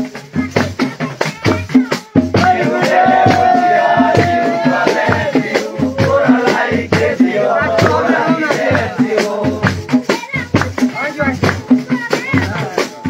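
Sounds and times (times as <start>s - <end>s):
drum and rattle beat: 0.0s - 13.0s.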